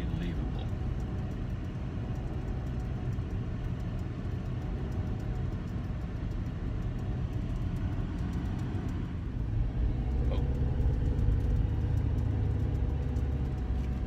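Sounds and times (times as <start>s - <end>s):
car driving: 0.0s - 14.0s.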